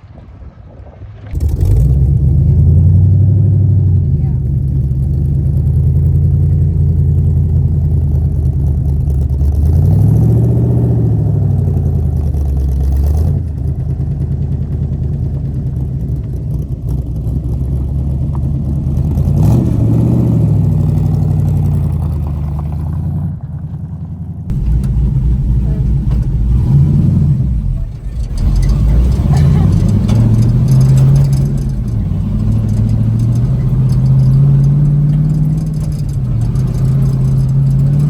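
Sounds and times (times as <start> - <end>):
vehicle engine revving: 1.2 - 38.0.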